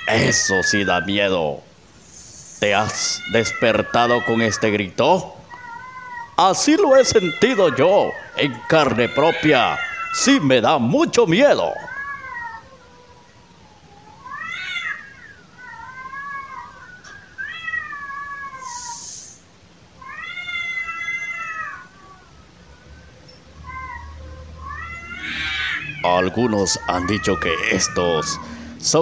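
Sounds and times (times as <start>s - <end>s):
cats yowling: 0.0s - 1.5s, 2.6s - 29.0s.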